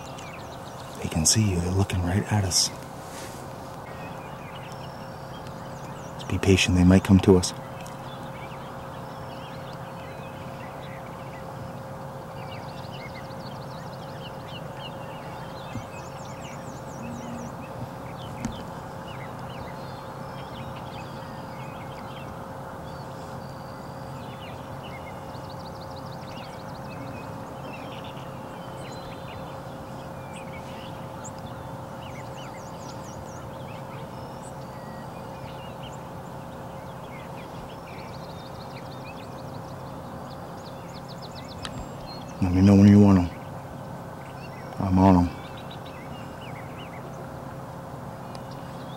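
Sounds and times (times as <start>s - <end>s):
constant low hum: 0.0s - 48.9s
songbirds chirping and trilling: 0.0s - 48.9s.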